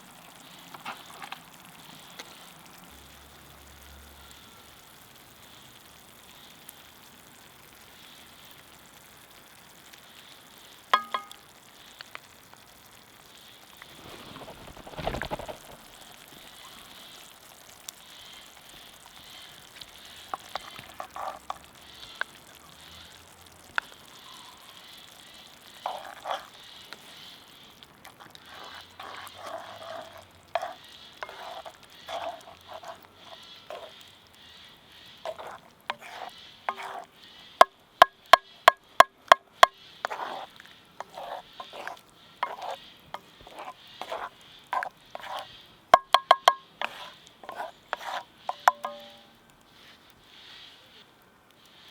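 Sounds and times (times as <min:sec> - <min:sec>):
food sizzling in a pan: 0:00.0 - 0:51.9
utensil stirring and scraping: 0:00.1 - 0:03.1, 0:05.2 - 0:51.9.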